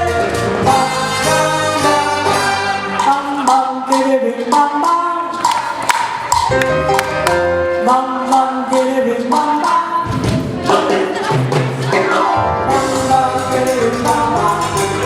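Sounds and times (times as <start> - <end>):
group singing: 0.0 - 6.6, 7.8 - 15.0
live salsa band playing: 0.0 - 15.0.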